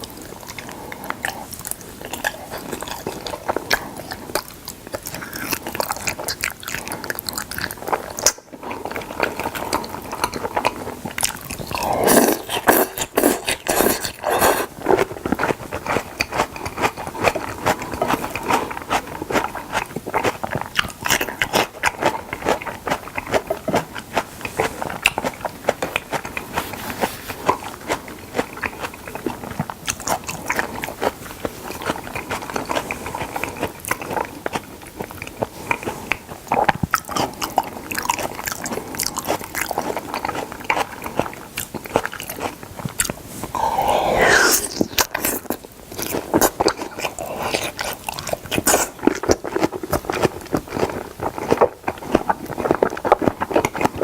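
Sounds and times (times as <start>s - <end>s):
wet chewing and mouth clicks: 0.0s - 54.0s.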